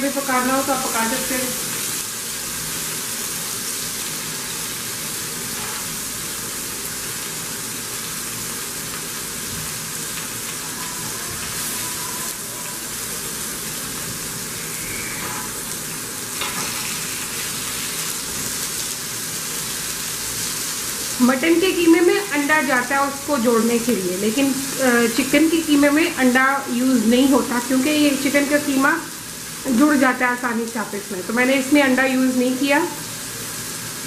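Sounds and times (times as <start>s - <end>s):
food sizzling on a griddle: 0.0s - 34.0s.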